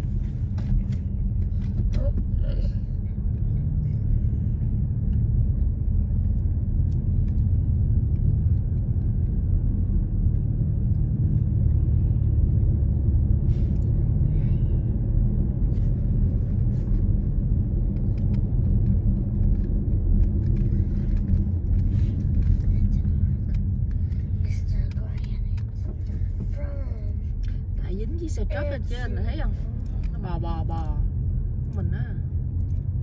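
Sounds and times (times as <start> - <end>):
car road and engine noise: 0.0 - 33.0.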